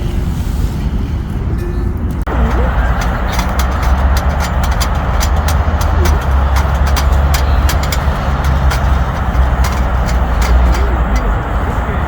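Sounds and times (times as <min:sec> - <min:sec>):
low fire rumble: 0:00.0 - 0:12.0
wood fire crackling: 0:02.3 - 0:12.0.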